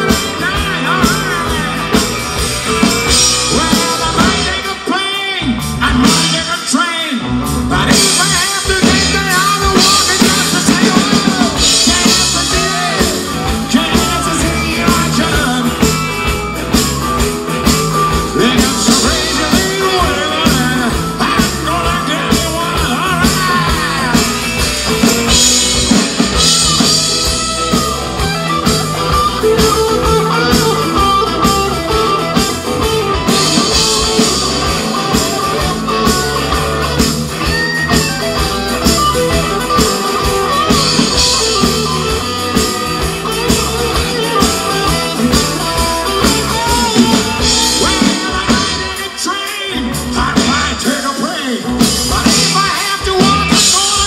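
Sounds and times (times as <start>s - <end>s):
lead vocal singing: 0.0s - 27.8s, 29.4s - 54.0s
live rock band playing: 0.0s - 54.0s.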